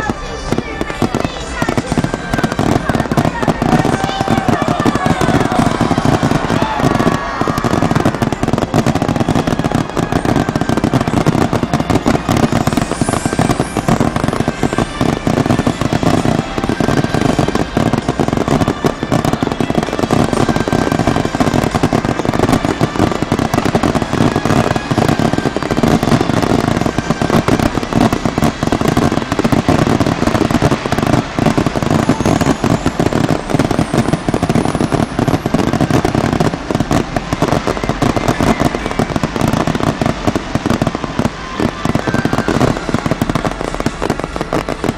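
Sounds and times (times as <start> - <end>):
fireworks bangs and crackling: 0.0 - 44.9
faint rising firework whistle: 1.7 - 44.9.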